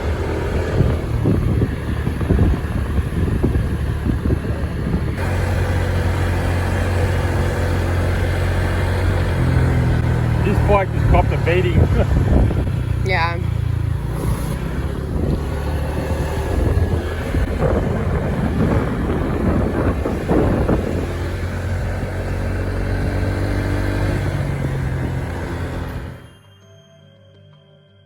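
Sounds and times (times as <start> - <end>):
motorbike engine running: 0.0 - 26.3
road and wind noise: 0.0 - 26.4.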